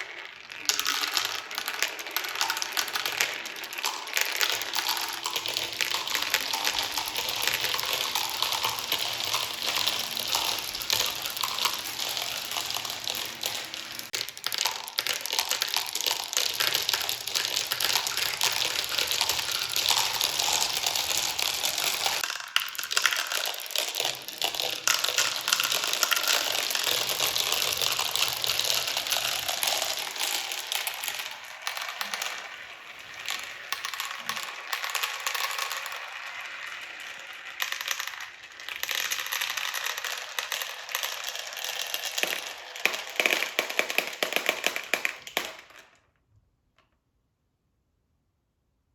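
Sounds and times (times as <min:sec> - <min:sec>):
marbles clattering down a marble run: 0:00.0 - 0:46.1.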